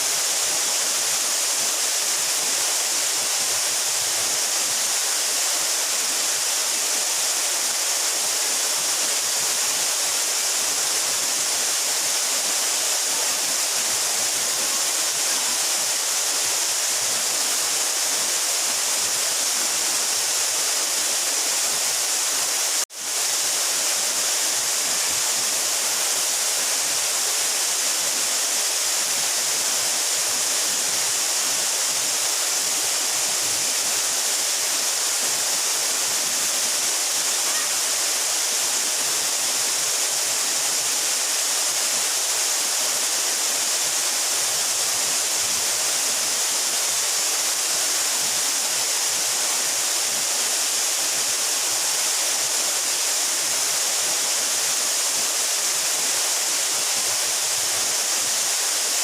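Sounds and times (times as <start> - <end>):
waterfall pouring: 0.0 - 59.0.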